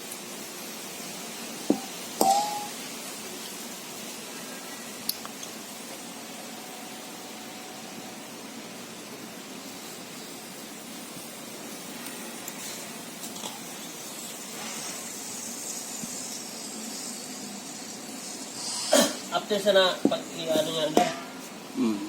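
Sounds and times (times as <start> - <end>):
refrigerant gas hissing: 0.0 - 22.0.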